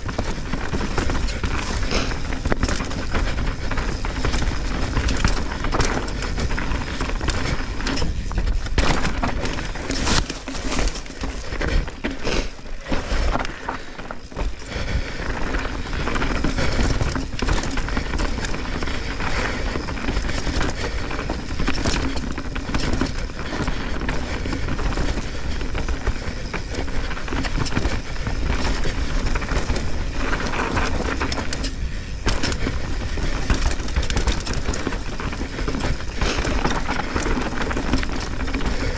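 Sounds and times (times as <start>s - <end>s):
bike clattering over bumps: 0.0s - 38.9s
bike tyres rolling on dirt: 0.0s - 38.9s.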